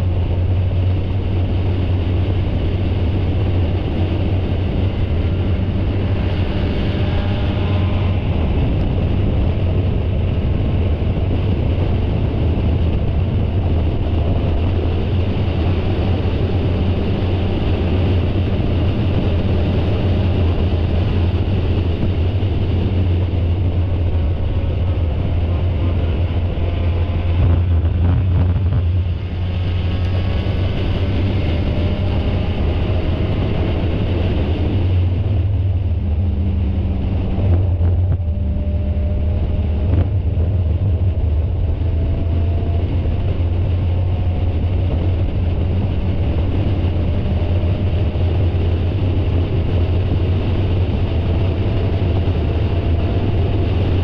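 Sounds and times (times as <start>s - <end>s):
race car engine running hard: 0.0s - 54.0s
road noise: 0.0s - 54.0s
wind noise: 0.0s - 54.0s.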